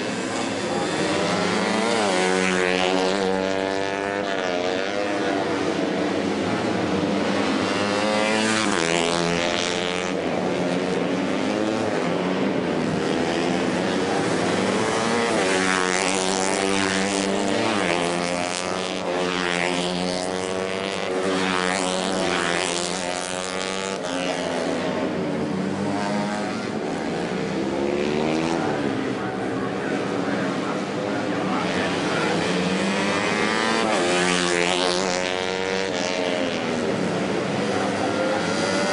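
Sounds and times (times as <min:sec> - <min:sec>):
racing motorcycles at full throttle: 0:00.0 - 0:38.9.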